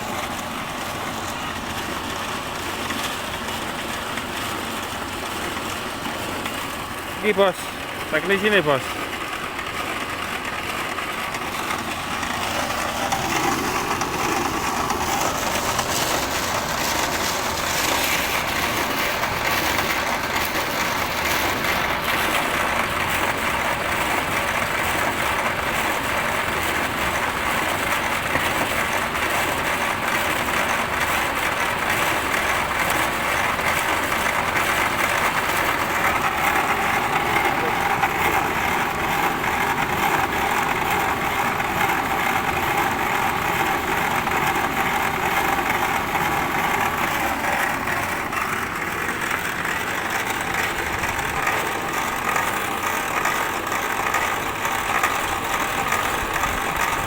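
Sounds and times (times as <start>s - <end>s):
pellet machine running: 0.0s - 57.0s.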